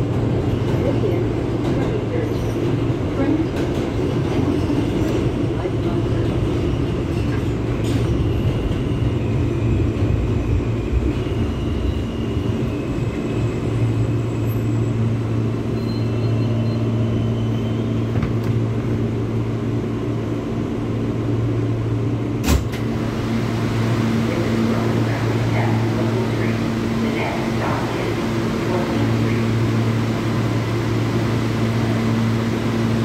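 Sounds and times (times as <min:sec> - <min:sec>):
subway car rumbling: 0:00.0 - 0:33.0.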